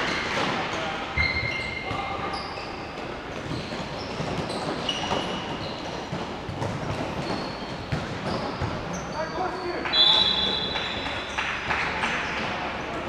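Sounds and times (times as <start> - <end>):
sports hall din: 0.0 - 13.0
shoes squeaking on court: 0.1 - 11.4.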